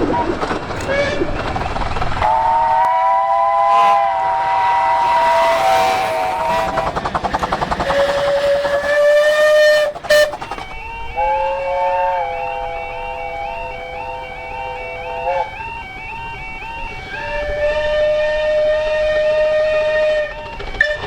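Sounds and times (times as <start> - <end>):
train whistle blasts: 2.2 - 21.0.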